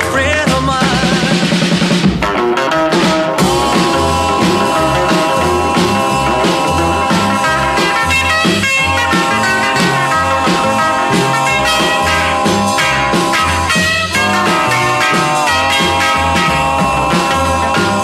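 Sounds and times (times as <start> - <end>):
rock and roll music: 0.0 - 18.0.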